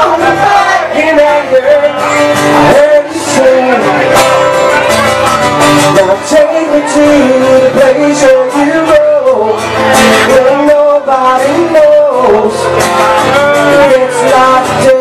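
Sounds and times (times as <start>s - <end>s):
acoustic guitar: 0.0s - 15.0s
crowd noise: 0.0s - 15.0s
man singing: 0.0s - 15.0s.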